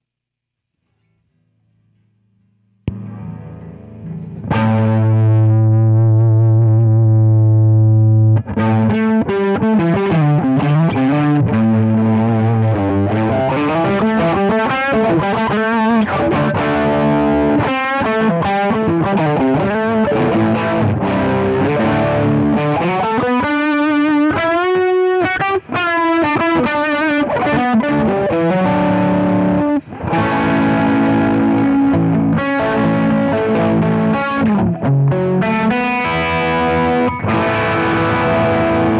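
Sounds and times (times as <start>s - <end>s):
distorted electric guitar: 0.9s - 38.9s.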